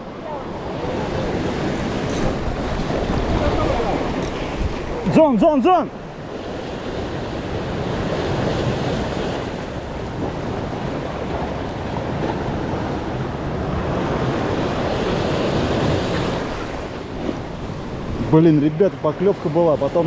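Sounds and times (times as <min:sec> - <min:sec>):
ocean surf breaking over rocks: 0:00.0 - 0:20.0
wind buffeting microphone: 0:00.0 - 0:20.0.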